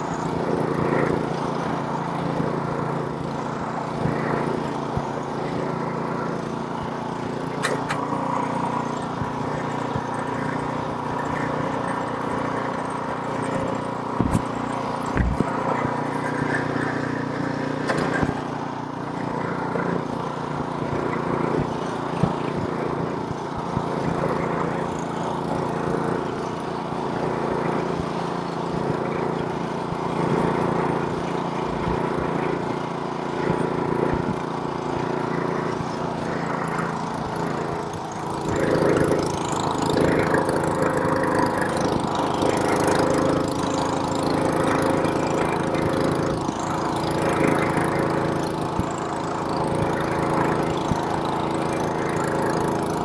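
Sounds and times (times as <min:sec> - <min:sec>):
snowblower engine running: 0:00.0 - 0:53.0.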